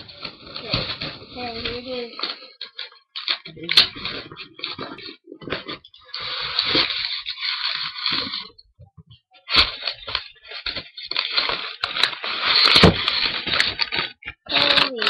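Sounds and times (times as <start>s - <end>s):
packaging crinkling: 0.0s - 8.6s, 9.4s - 15.0s.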